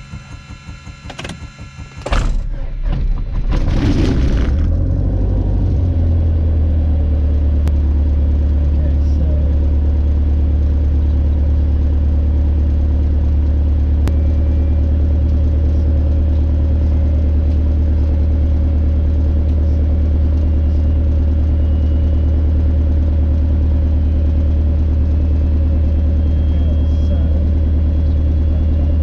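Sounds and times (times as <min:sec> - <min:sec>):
propeller plane engine idling: 0:00.0 - 0:03.8, 0:04.7 - 0:29.0.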